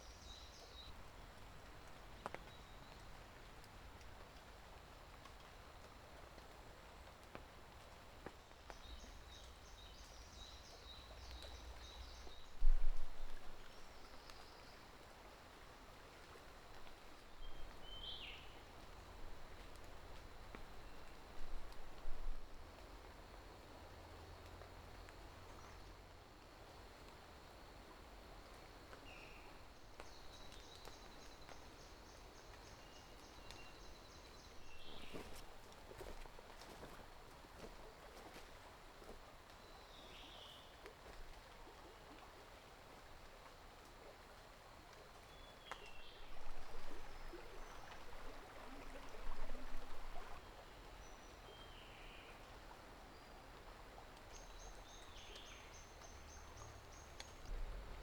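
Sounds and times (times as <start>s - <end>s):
rustle: 0.0s - 58.0s.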